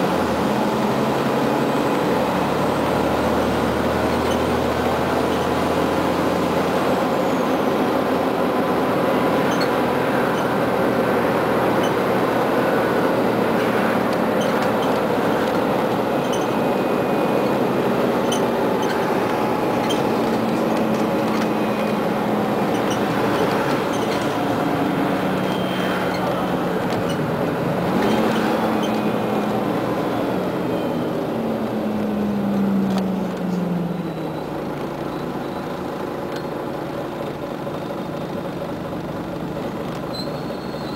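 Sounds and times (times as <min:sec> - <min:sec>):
bus engine and road noise: 0:00.0 - 0:40.9.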